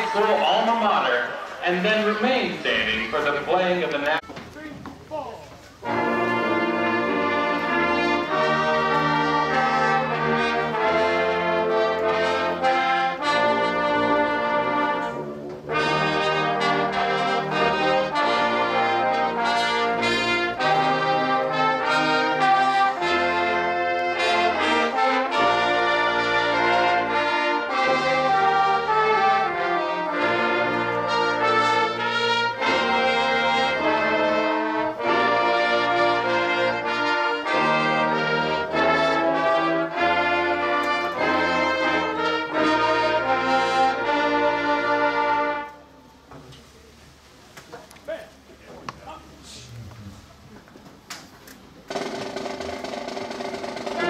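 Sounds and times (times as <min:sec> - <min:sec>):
marching band playing: 0:00.0 - 0:04.7, 0:05.7 - 0:46.0, 0:51.8 - 0:54.0.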